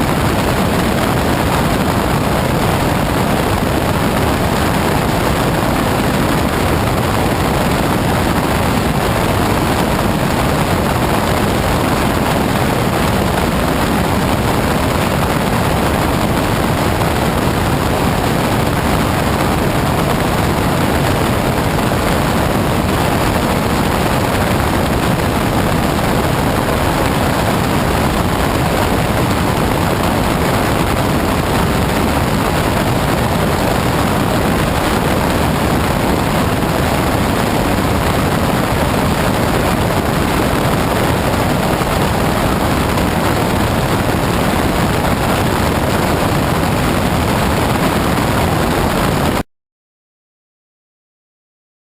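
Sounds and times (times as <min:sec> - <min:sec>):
propeller plane engine: 0:00.0 - 0:49.4
wind rush: 0:00.0 - 0:49.4.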